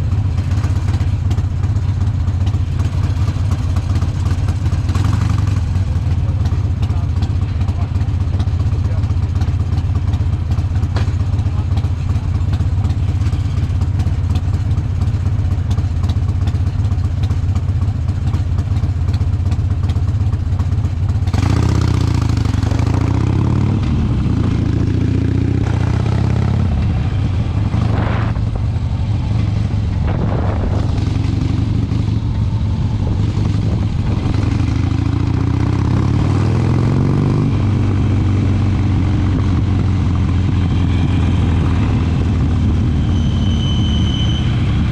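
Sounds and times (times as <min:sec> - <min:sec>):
motorcycle engine rumbling: 0:00.0 - 0:44.9.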